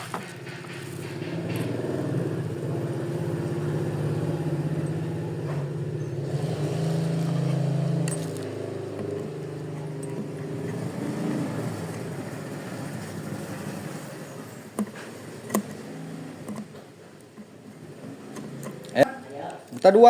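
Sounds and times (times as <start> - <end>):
engine humming: 0.0 - 19.2.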